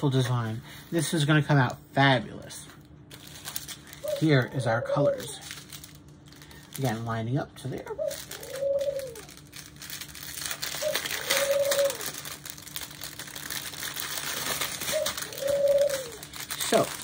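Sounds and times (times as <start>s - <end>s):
plastic and foil bags crinkling: 2.5s - 17.0s.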